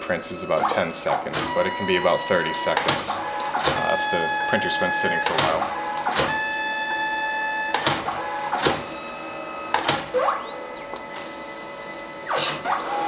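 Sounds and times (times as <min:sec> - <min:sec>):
printer motor whine: 0:00.0 - 0:13.0
printer mechanism clicks and clunks: 0:00.6 - 0:11.3.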